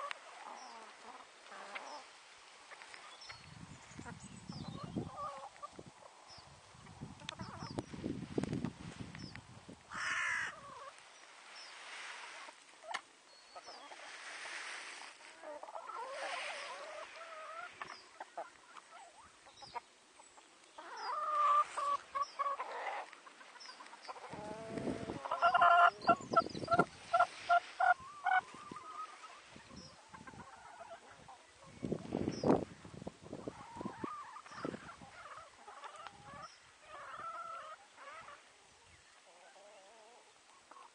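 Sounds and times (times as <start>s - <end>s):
chickens clucking: 0.0s - 7.9s, 9.3s - 11.0s, 12.1s - 40.9s.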